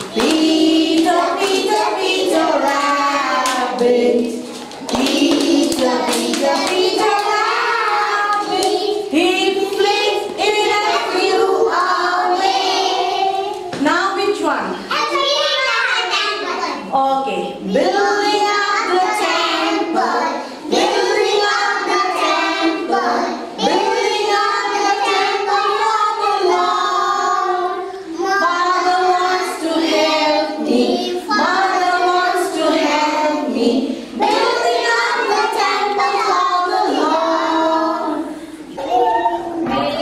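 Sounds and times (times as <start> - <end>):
women singing: 0.0 - 13.5, 17.6 - 40.0
children singing: 0.0 - 13.7, 14.9 - 16.9, 17.6 - 40.0.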